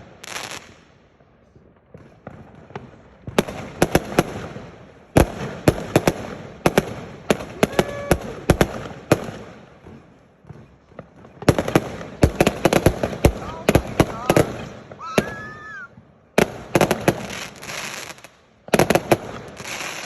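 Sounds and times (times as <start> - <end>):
fireworks banging: 0.0 - 20.0
fireworks crackling: 0.0 - 20.0.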